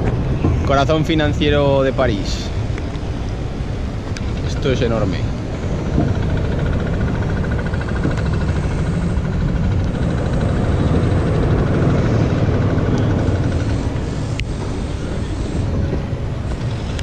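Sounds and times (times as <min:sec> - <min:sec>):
low city rumble: 0:00.0 - 0:17.0
faint pulsing high tone: 0:00.6 - 0:17.0.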